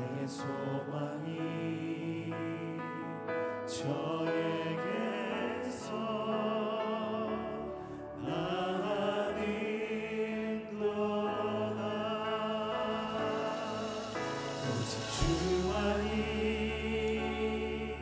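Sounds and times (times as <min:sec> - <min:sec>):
group singing in harmony: 0:00.0 - 0:18.0.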